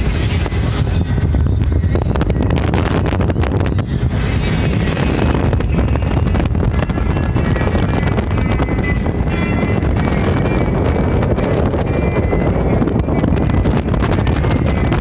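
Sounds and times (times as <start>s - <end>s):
outboard engine running: 0.0s - 15.0s
wind buffeting microphone: 0.0s - 15.0s.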